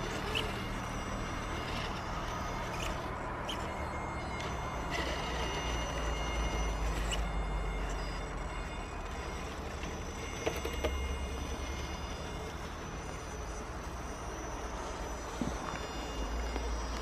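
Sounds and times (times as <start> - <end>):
electric motor and gears whining: 0.0 - 17.0.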